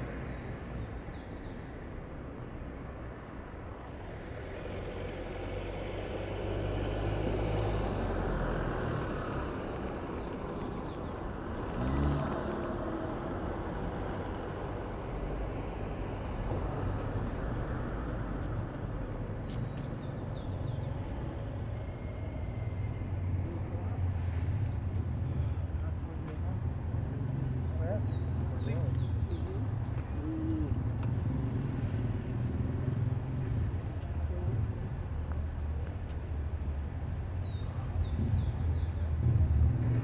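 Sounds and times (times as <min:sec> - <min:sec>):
cars passing on street: 0:00.0 - 0:40.0.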